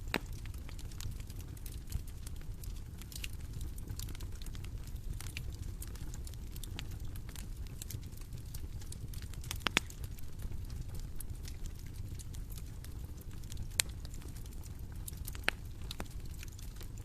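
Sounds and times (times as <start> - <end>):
bonfire rumbling: 0.0 - 17.0
fire pops and snaps: 0.0 - 17.0.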